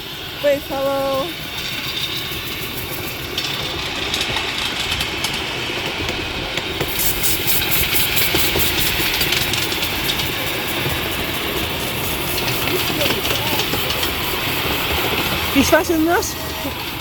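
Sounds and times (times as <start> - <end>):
miniature train rumbling: 0.0 - 17.0.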